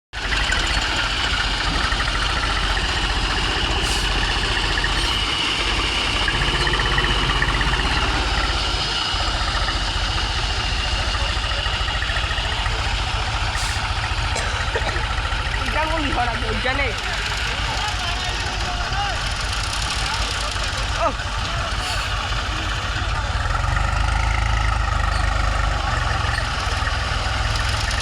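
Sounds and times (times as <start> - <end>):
tractor engine running: 0.1 - 28.0.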